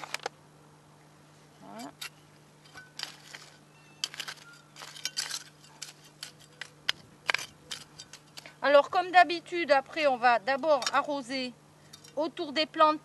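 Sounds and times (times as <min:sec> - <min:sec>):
metal trowel scraping stony soil: 0:01.6 - 0:12.4.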